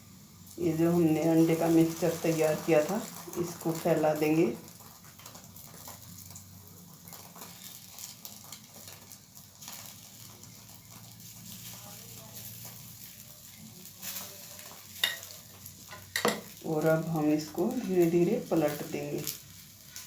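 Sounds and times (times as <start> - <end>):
faint sizzling on hot griddle: 0.0 - 20.0.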